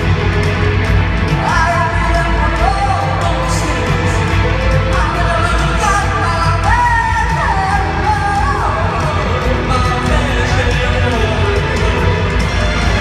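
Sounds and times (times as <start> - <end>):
live rock band playing: 0.0 - 13.0
person singing: 1.3 - 13.0.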